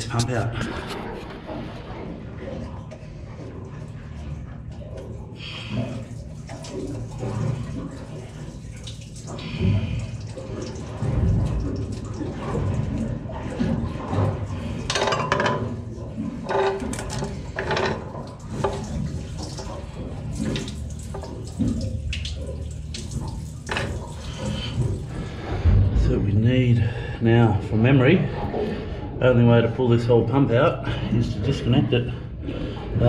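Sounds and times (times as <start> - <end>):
water trickling and dripping: 0.0 - 30.2.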